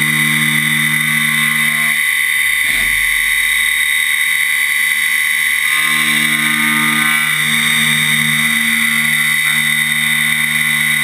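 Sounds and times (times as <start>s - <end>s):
low hum: 0.0s - 11.0s
milling machine whine: 0.0s - 11.0s.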